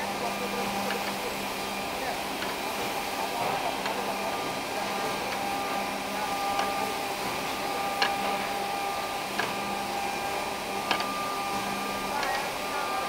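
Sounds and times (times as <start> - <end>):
power feeder motor hum: 0.0 - 13.0.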